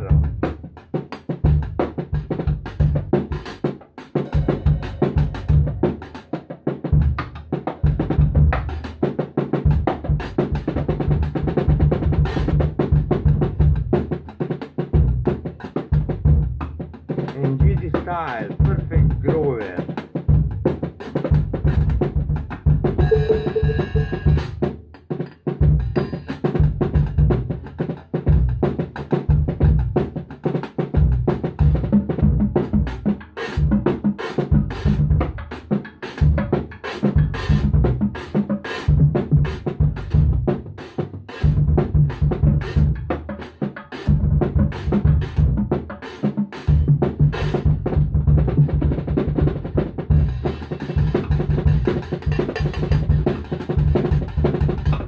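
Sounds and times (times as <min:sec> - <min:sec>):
drum kit playing fast groove: 0:00.0 - 0:55.0.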